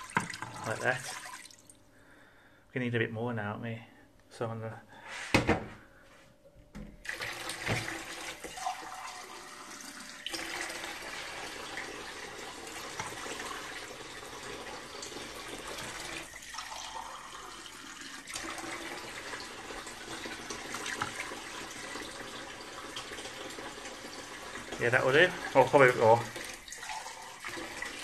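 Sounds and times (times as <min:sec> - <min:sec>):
water from tap filling cup: 0:00.0 - 0:01.7, 0:07.0 - 0:28.0.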